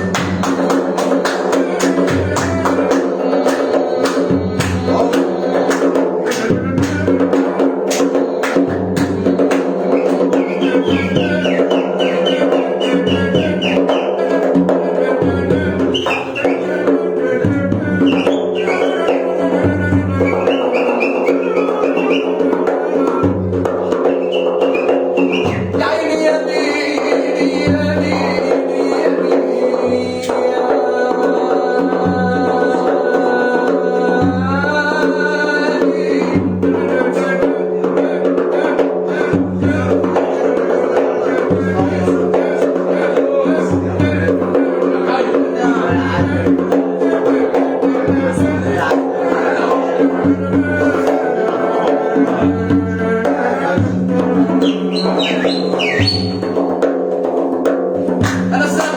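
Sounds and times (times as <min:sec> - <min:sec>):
steady drum beat: 0:00.0 - 0:58.9.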